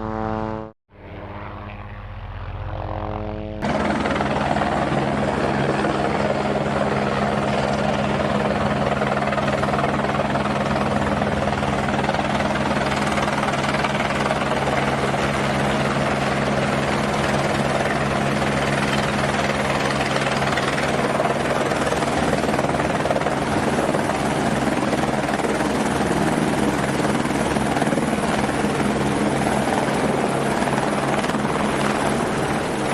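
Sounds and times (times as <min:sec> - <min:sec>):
helicopter in flight: 0:00.0 - 0:32.9.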